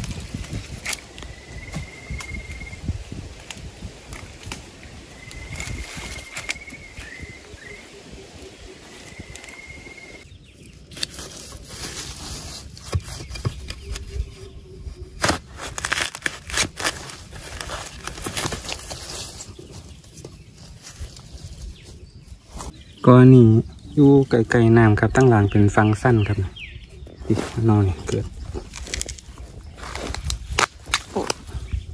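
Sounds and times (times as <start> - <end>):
leaves and brush crunching: 0.0 - 23.2, 26.1 - 31.9.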